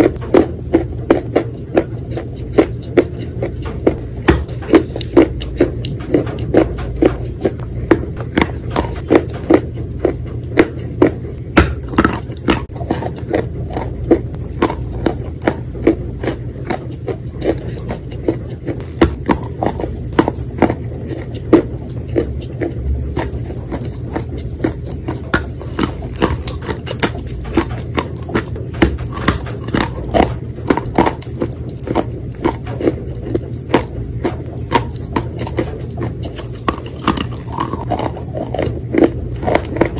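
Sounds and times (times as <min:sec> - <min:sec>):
crunchy chewing of chalk: 0:00.0 - 0:39.9.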